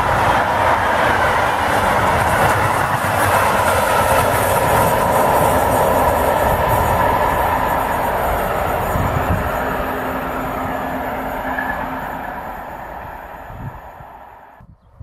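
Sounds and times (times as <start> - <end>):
train wheels rumbling on rails: 0.0 - 14.6.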